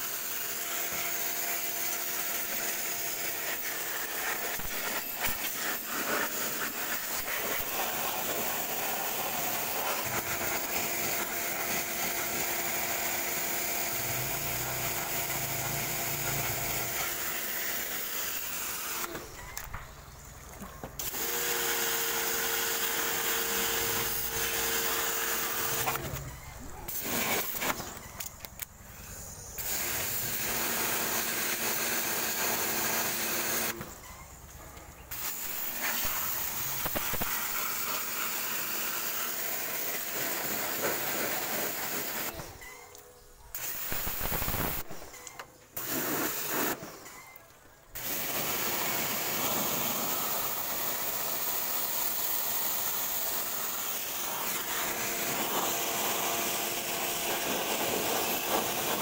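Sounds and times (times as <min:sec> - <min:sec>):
pressure washer spraying water: 0:00.0 - 0:19.1, 0:21.0 - 0:26.0, 0:29.6 - 0:33.8, 0:35.1 - 0:42.4, 0:43.6 - 0:44.9, 0:45.8 - 0:47.0, 0:48.0 - 0:59.0.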